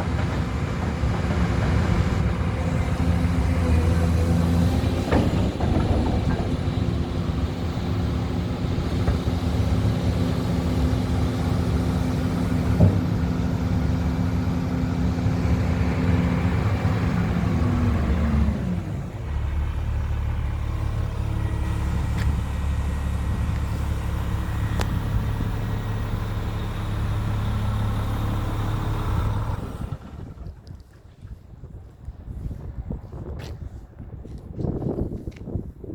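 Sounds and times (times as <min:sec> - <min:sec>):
excavator diesel engine running: 0:00.0 - 0:30.7.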